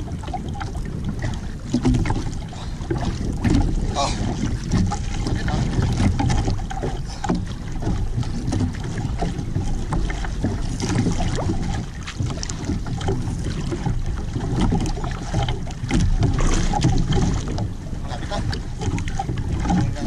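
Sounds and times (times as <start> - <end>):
sea water splashing against boat: 0.0 - 20.0
wind on microphone: 0.0 - 20.0.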